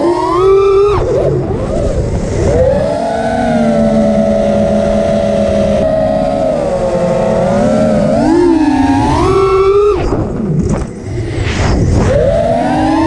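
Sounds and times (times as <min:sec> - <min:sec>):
drone motors whining: 0:00.0 - 0:13.0
low wind noise: 0:00.0 - 0:13.0.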